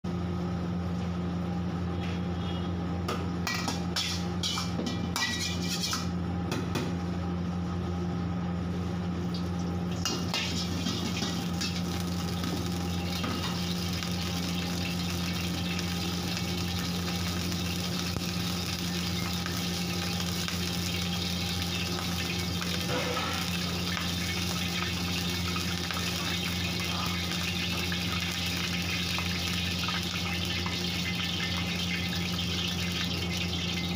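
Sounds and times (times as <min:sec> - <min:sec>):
oil sizzling in a wok: 0:03.4 - 0:06.2, 0:09.3 - 0:33.9.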